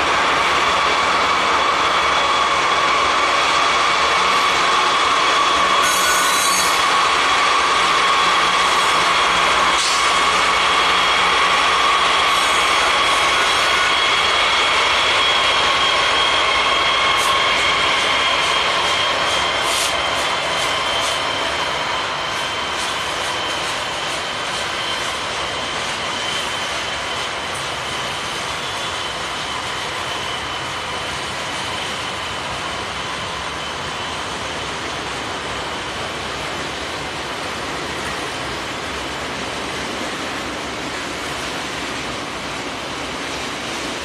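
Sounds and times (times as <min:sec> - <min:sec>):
diesel locomotive engine: 0:00.0 - 0:44.0
freight cars rolling on rails: 0:00.0 - 0:44.0.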